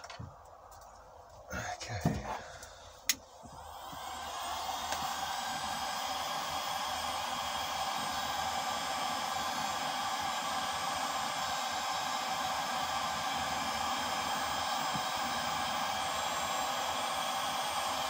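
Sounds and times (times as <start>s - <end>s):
heat gun fan blowing: 0.0s - 18.0s.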